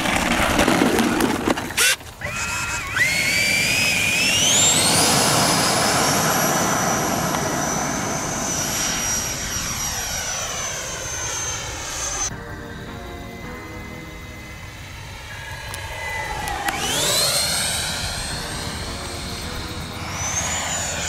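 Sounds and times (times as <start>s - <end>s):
electric ducted fan whine: 1.7s - 21.0s.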